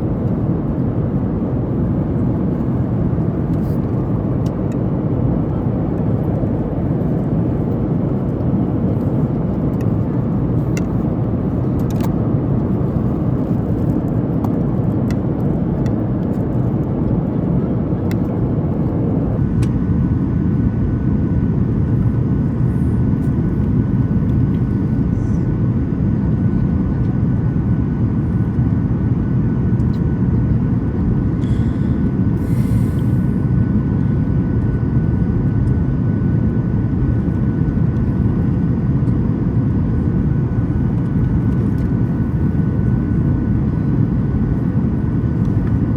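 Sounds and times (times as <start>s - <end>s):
airplane cabin roar: 0.0s - 45.9s
faint steady whine: 0.0s - 45.9s.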